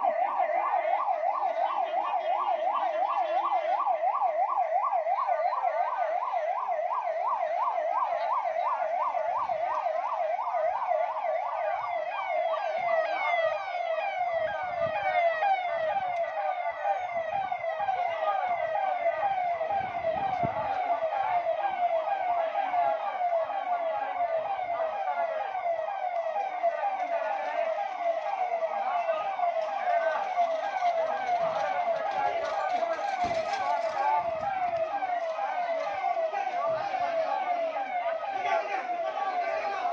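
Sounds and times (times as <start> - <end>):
emergency siren yelping: 0.0 - 39.9.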